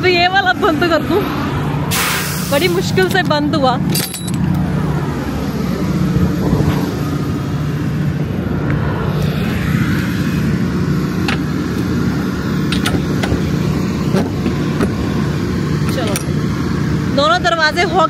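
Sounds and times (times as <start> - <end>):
truck diesel engine idling: 0.0 - 8.5, 10.1 - 18.0.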